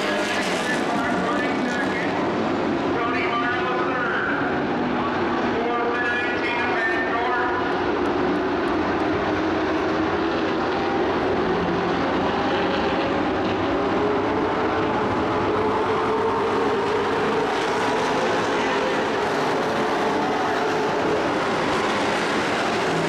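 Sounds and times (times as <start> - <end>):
racing truck engines droning: 0.0 - 23.0.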